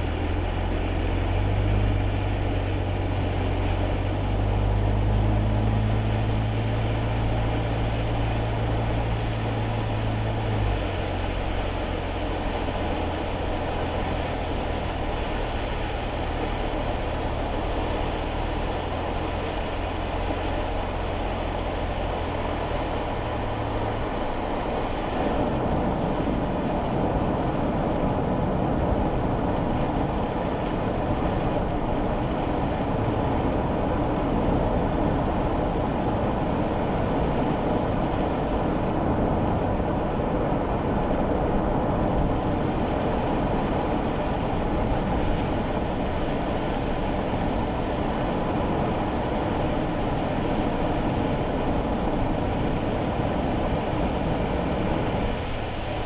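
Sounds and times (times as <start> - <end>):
road and tyre noise in car: 0.0 - 56.0.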